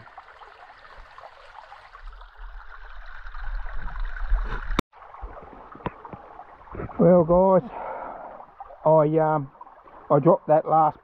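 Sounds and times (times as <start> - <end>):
creek water trickling over stones: 0.0 - 11.0.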